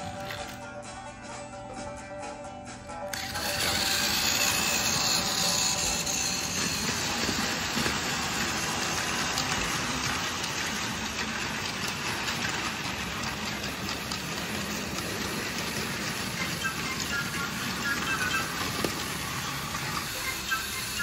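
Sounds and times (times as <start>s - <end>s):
toy train motor whirring: 3.1s - 21.0s
wheels clicking on track: 3.1s - 21.0s.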